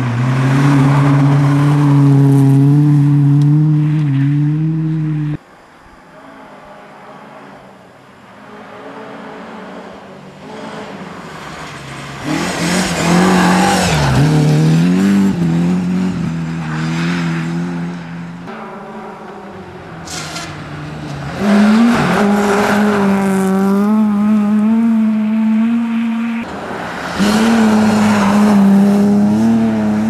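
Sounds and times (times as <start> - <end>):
rally car engine passing at speed: 0.0 - 5.4, 9.1 - 30.0.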